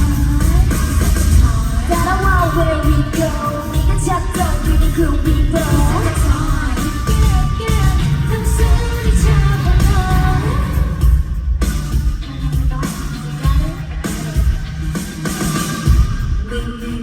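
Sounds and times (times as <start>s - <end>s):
bass-driven backing track: 0.0s - 17.0s
group singing live: 0.0s - 17.0s.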